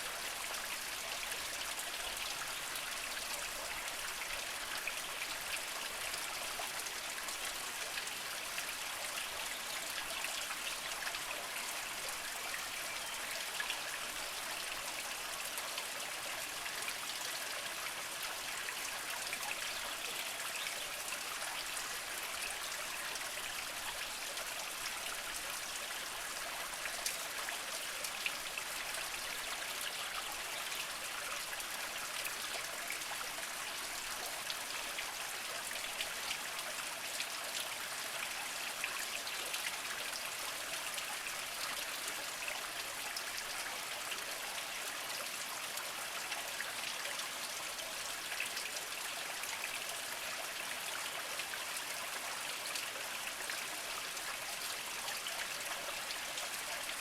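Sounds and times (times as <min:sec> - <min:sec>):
spring water trickling over rocks: 0:00.0 - 0:57.0.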